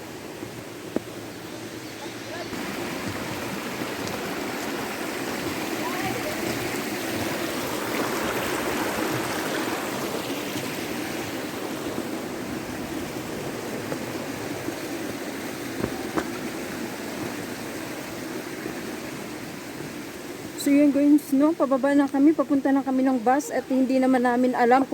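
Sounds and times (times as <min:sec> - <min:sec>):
stream running over rocks: 0:00.0 - 0:24.9.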